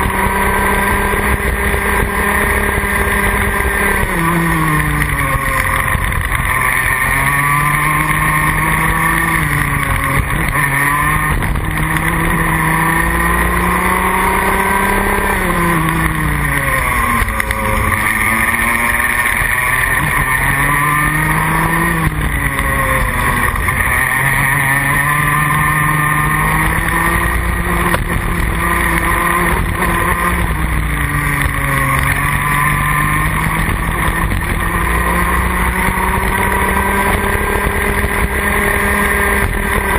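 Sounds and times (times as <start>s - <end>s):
kart two-stroke engine revving: 0.0s - 39.9s.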